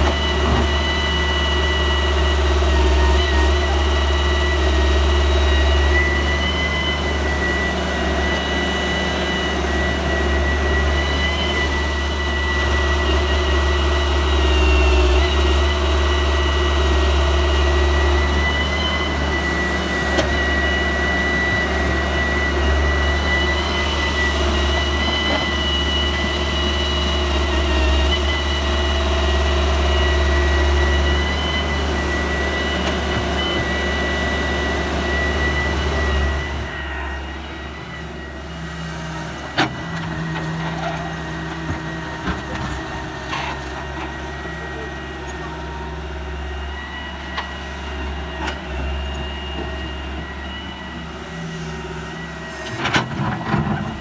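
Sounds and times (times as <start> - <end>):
diesel machinery drone: 0.0 - 54.0.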